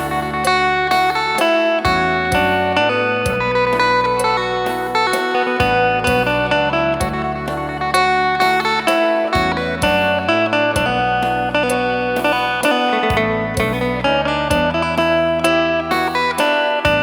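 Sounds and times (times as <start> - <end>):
plucked lute melody over drone: 0.0 - 17.0.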